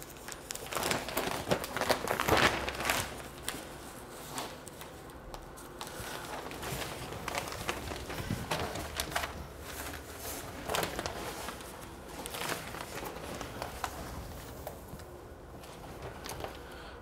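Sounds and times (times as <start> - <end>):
newspaper rustling: 0.0 - 16.9.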